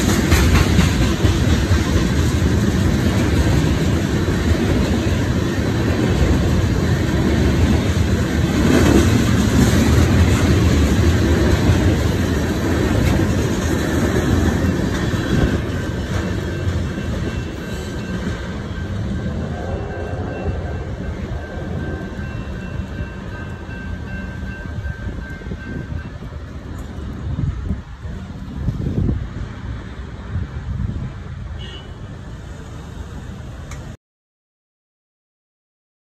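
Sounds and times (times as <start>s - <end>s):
steel train wheels on rails: 0.0s - 34.0s.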